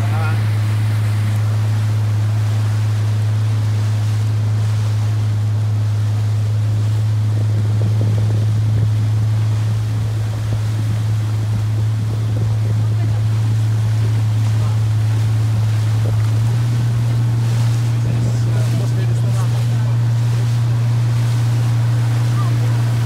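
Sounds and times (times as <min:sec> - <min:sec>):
motorboat engine humming: 0:00.0 - 0:23.0
water washing around hull: 0:00.0 - 0:23.0.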